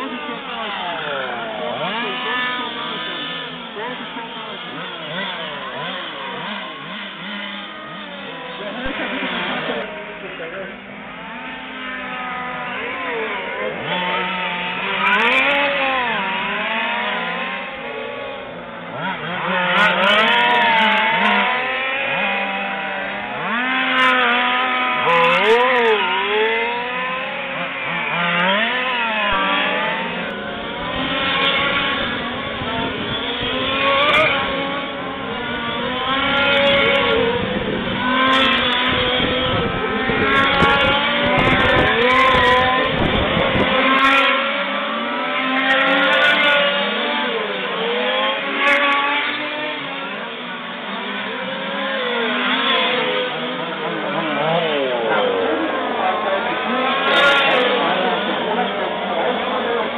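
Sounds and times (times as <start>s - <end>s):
small two-stroke engines revving: 0.0s - 59.9s.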